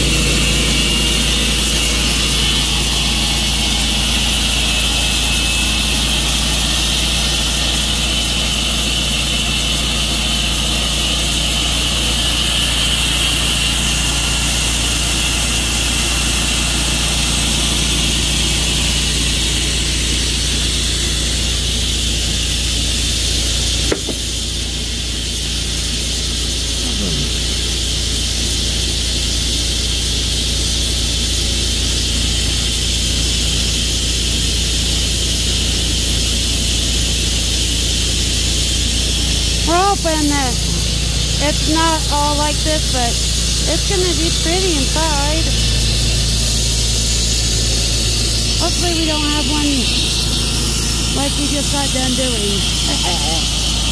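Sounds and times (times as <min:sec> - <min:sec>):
saw blade hissing: 0:00.0 - 0:29.0, 0:32.0 - 0:53.9
sawmill engine hum: 0:00.0 - 0:53.9.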